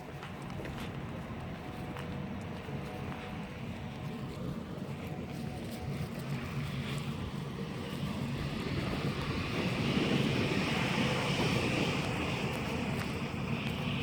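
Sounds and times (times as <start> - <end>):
steady low hum: 0.0 - 14.0
vehicle passing: 0.0 - 14.0.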